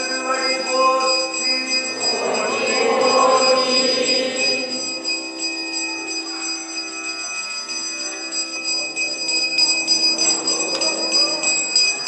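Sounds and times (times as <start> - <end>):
hand bell ringing: 0.0 - 12.0.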